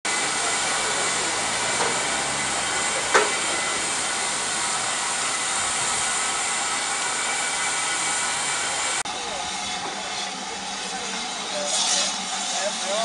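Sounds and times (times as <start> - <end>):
steam hissing from locomotive: 0.1 - 13.0.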